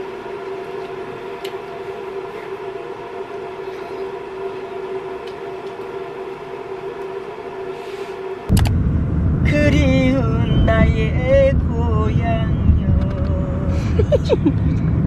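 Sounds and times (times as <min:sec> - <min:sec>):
steady hum of held tones: 0:00.0 - 0:15.0.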